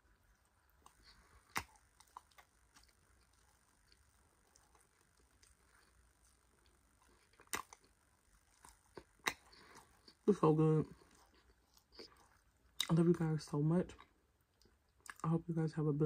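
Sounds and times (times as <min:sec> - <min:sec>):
chewing with clicks and crackles: 0:00.0 - 0:15.4.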